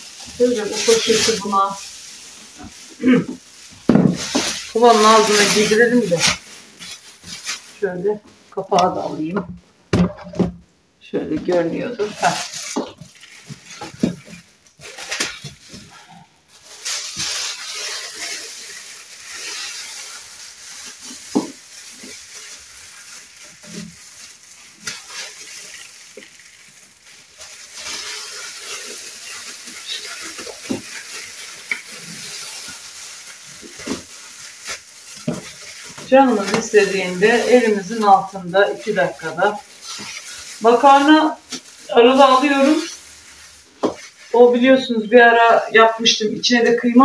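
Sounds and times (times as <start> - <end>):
plastic bag crinkling: 0.0 - 47.0.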